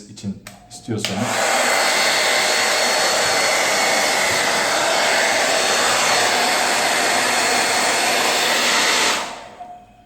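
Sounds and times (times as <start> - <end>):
hair dryer running: 1.0 - 9.7.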